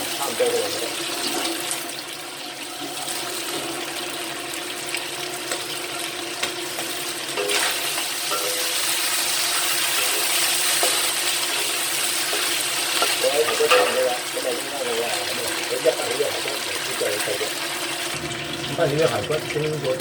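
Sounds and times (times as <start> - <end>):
ribs sizzling in oil: 0.0 - 20.0.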